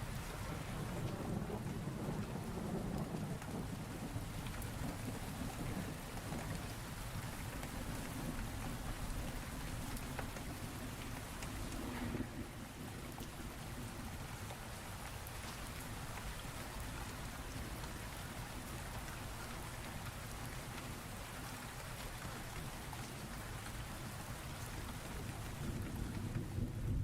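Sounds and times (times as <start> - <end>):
low rumble of thunder: 0.0 - 21.1, 22.2 - 27.0
raindrops pattering: 0.0 - 27.0
steady rain hiss: 0.0 - 27.0.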